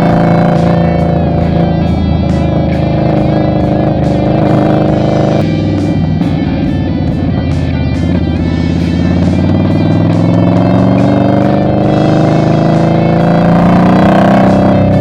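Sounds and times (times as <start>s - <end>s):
guitar background music: 0.0s - 15.0s
motorcycle engine accelerating: 0.0s - 15.0s.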